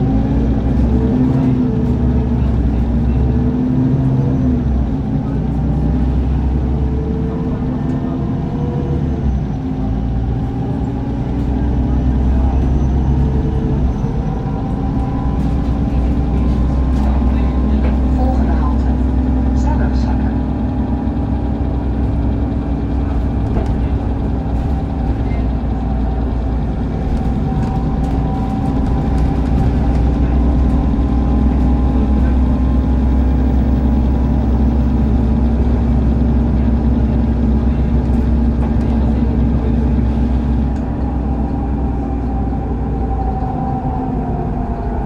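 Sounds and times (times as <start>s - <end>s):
bus engine drone: 0.0s - 45.0s.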